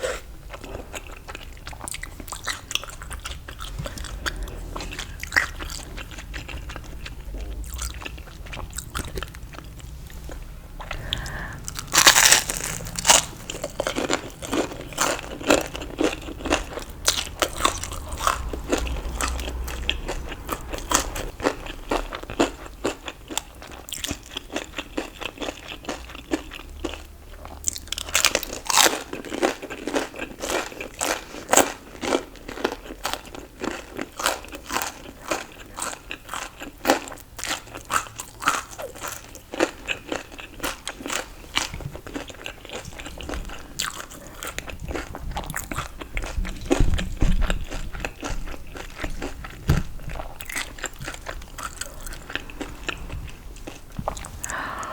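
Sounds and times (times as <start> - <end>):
crunchy food bitten and chewed: 0.0 - 54.9.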